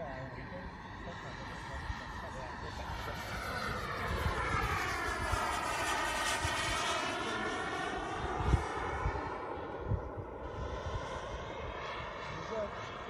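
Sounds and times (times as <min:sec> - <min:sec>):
model jet engine whine: 0:00.0 - 0:13.0.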